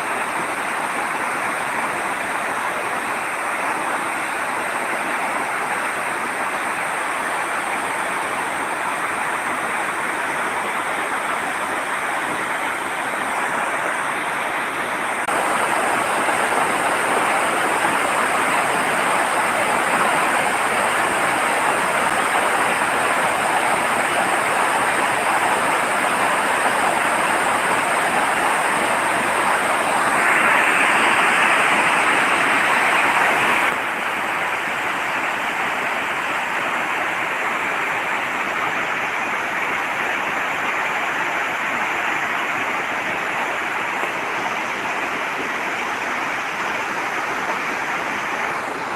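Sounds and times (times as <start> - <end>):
fast-flowing river rushing: 0.0 - 48.9.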